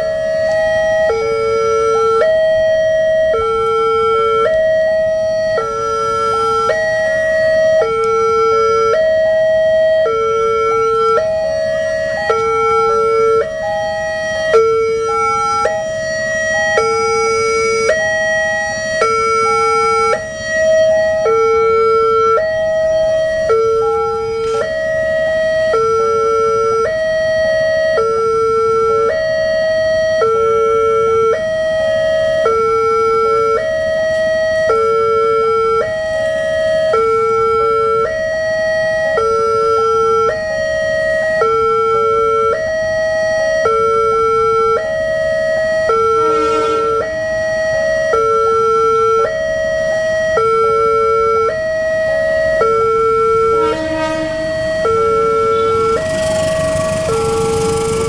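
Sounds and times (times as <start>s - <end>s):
level crossing electronic alarm: 0.0s - 58.0s.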